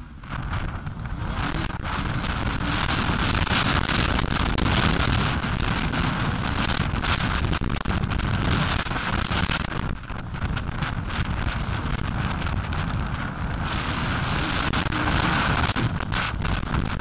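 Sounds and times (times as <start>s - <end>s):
motorbike engine running hard: 0.0s - 17.0s
wind buffeting microphone: 0.0s - 17.0s.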